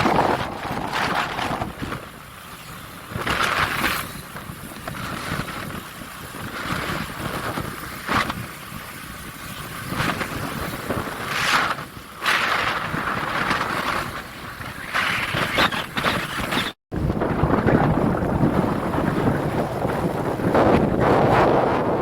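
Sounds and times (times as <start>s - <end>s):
vehicle noise: 0.0s - 22.0s
wind on microphone: 0.0s - 22.0s.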